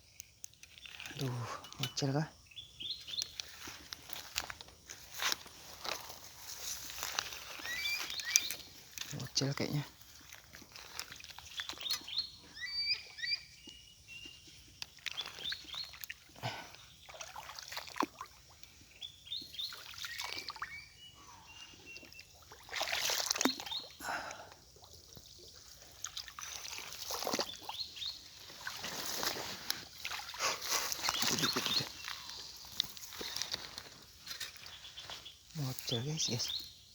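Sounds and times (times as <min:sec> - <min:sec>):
small birds chirping: 0:00.0 - 0:24.4, 0:25.2 - 0:36.9
splashing and rustling: 0:00.5 - 0:02.2, 0:03.0 - 0:12.2, 0:14.5 - 0:20.7, 0:21.9 - 0:36.5.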